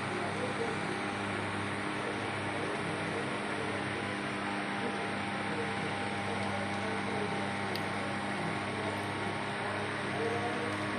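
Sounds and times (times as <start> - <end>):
steady mechanical hum: 0.0 - 10.9.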